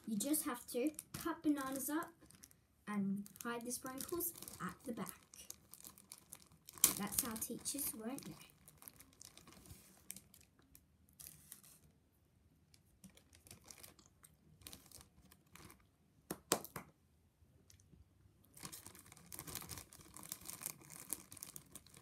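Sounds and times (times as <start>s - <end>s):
plastic bag crinkling: 0.0s - 11.9s, 13.0s - 15.9s, 18.6s - 22.0s.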